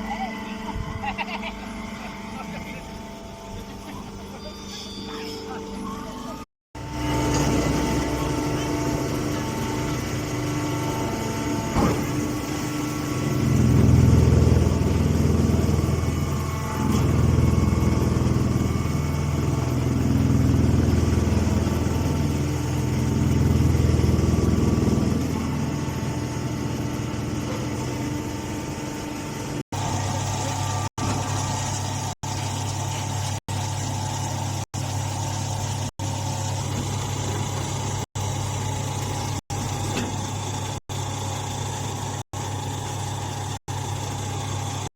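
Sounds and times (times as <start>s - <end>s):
baling machinery engine running: 0.0s - 44.9s.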